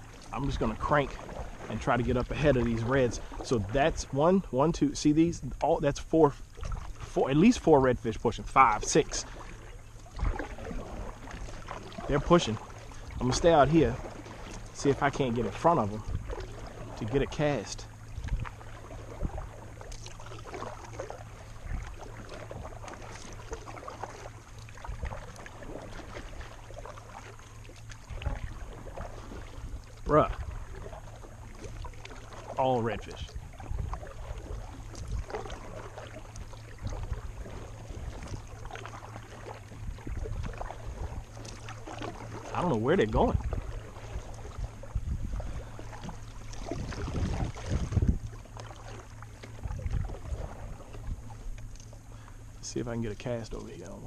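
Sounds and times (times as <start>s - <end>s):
steady low rumble: 0.0s - 54.0s
water splashing against kayak hull: 0.0s - 54.0s.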